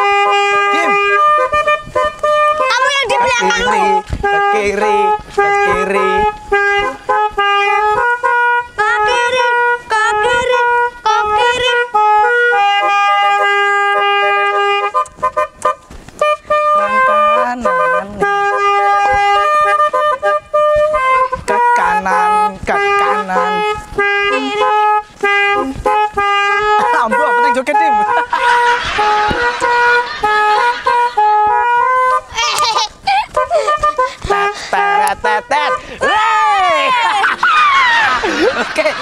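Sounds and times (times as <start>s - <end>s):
musical air horn tune: 0.0s - 39.0s.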